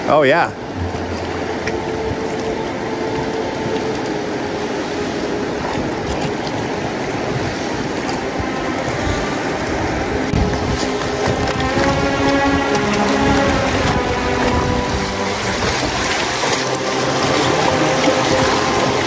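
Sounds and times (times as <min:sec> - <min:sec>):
river current rushing and splashing: 0:00.0 - 0:19.0.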